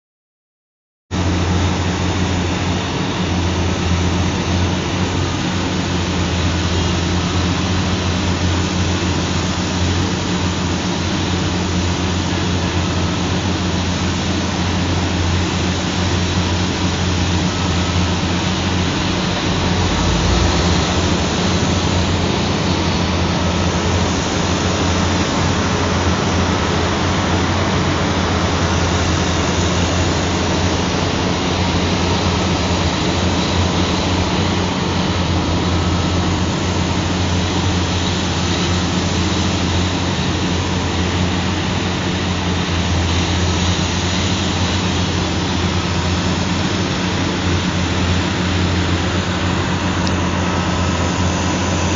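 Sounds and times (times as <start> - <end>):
heavy engine droning: 1.2 - 51.9.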